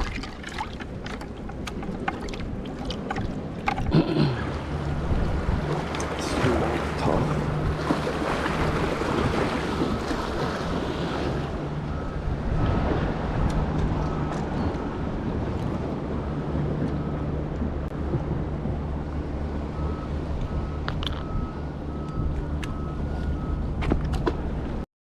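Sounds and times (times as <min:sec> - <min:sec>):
ocean surf against rocks: 0:00.0 - 0:21.4
steady low hum: 0:00.0 - 0:24.8
wind buffeting microphone: 0:00.0 - 0:24.8.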